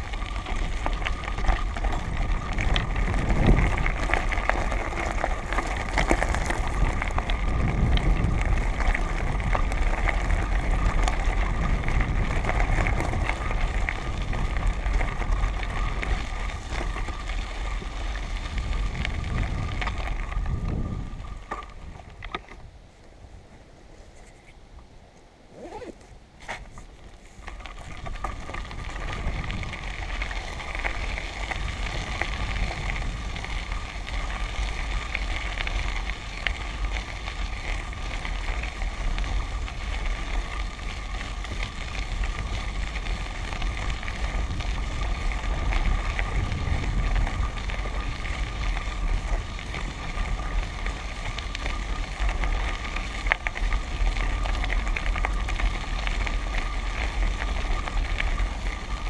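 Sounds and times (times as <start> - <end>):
wind rumbling on microphone: 0.0 - 24.8, 25.4 - 59.0
wheels crunching over gravel: 0.0 - 59.0.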